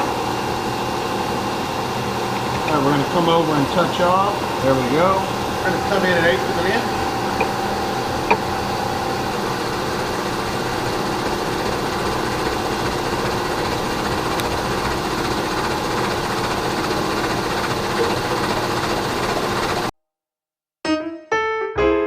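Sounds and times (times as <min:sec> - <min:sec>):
milling machine cutting metal: 0:01.6 - 0:19.9.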